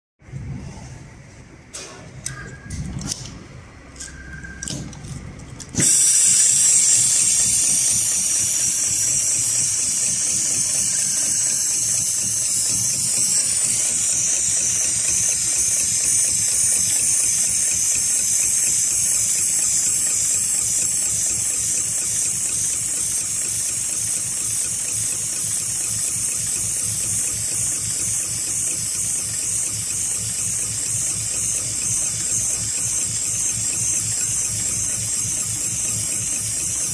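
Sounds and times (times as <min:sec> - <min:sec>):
sewing machine running: 0:05.7 - 0:36.9.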